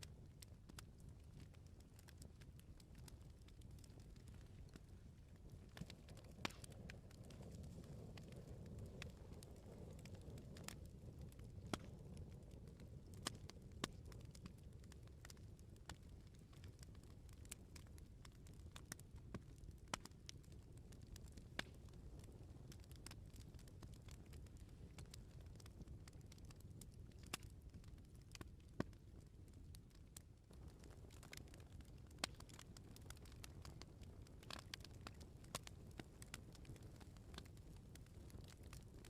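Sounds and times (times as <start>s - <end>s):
bonfire crackling: 0.0s - 39.0s
wood fire popping and snapping: 0.0s - 39.0s.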